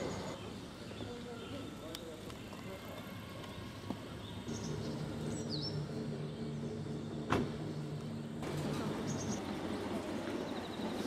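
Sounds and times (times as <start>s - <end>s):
engine humming: 1.7s - 11.0s.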